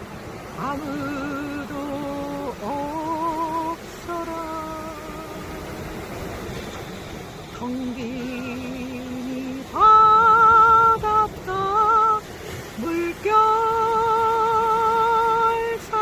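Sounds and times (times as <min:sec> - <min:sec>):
woman singing with vibrato: 0:00.6 - 0:06.0, 0:07.6 - 0:16.0.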